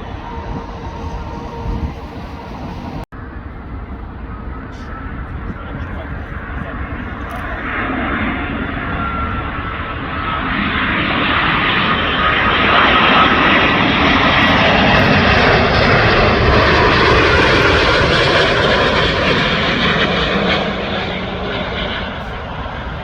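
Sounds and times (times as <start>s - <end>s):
airliner jet roar: 0.0s - 23.0s.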